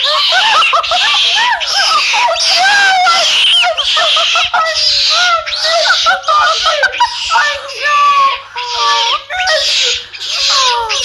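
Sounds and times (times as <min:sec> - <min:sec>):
baby monkey screeching: 0:00.0 - 0:11.0
squeaky monkey calls: 0:00.0 - 0:11.0.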